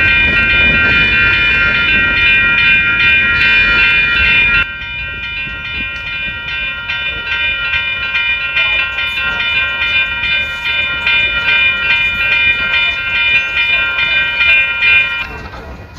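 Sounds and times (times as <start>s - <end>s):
crossing warning bell ringing: 0.0s - 15.8s
freight train rumbling past: 0.0s - 15.9s.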